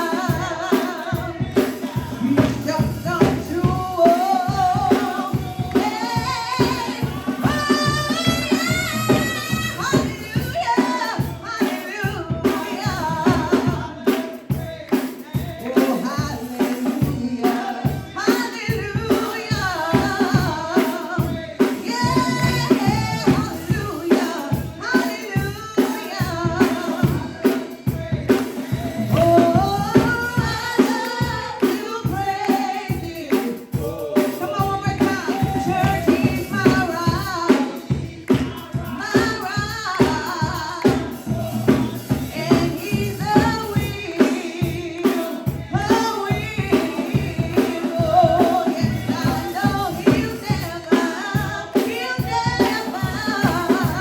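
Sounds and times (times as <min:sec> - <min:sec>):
drum kit beat: 0:00.0 - 0:54.0
gospel singing: 0:00.0 - 0:54.0.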